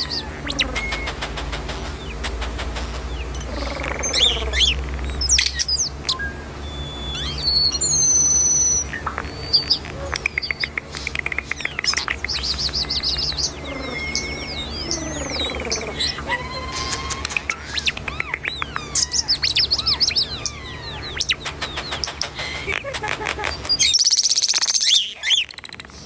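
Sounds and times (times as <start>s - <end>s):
bird chirping and trilling: 0.0s - 26.0s.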